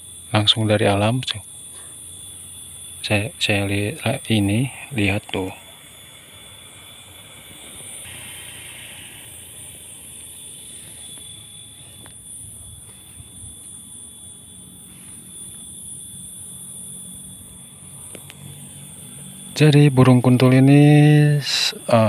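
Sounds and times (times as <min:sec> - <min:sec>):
high-pitched insect buzz: 0:00.0 - 0:22.0.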